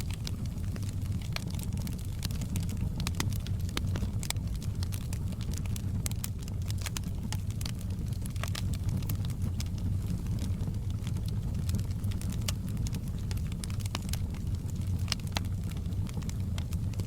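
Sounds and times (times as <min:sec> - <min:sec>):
fire crackling and popping: 0:00.0 - 0:17.0
log fire burning: 0:00.0 - 0:17.0.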